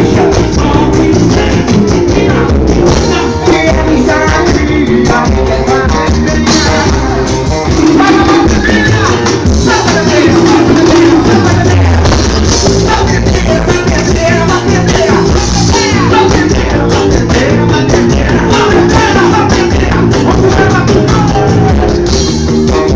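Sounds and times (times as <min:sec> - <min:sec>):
drums and percussion beating: 0:00.0 - 0:22.9.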